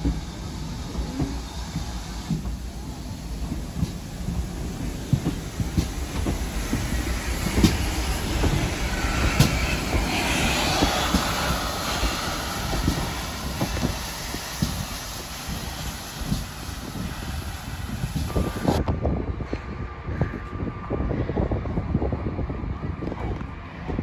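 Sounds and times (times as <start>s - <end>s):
low train rumble: 0.0s - 24.0s
rushing sound of passing locomotive: 0.0s - 24.0s.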